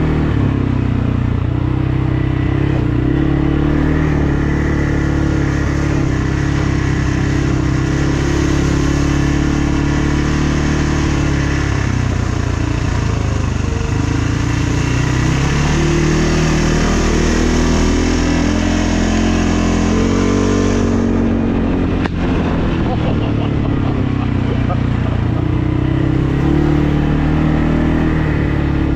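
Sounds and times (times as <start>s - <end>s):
atv engine running: 0.0s - 28.9s.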